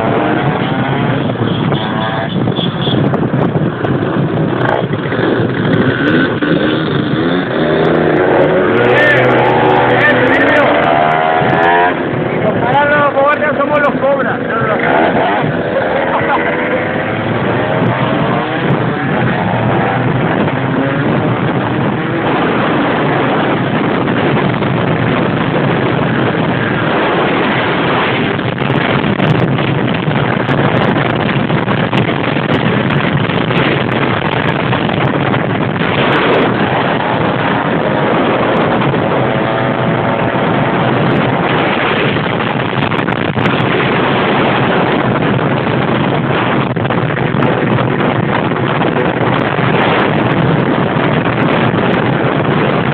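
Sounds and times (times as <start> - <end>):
wind noise on microphone: 0.0 - 52.9.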